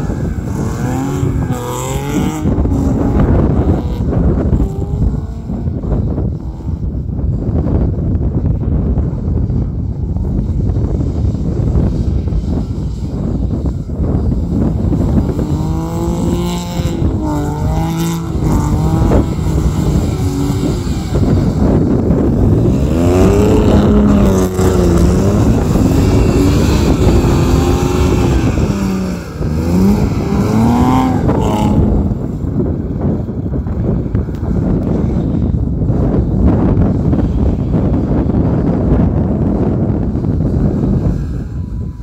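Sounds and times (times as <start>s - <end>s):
car engine revving: 0.0s - 7.2s, 8.6s - 42.0s
steady rushing noise: 0.0s - 42.0s.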